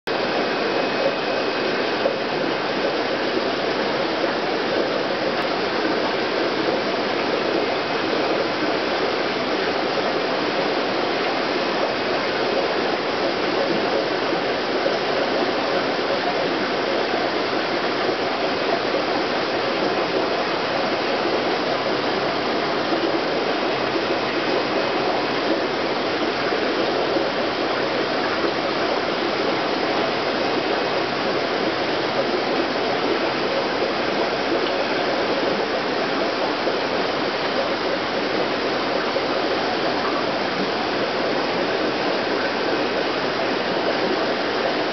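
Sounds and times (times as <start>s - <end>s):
aquarium water running: 0.1s - 44.9s.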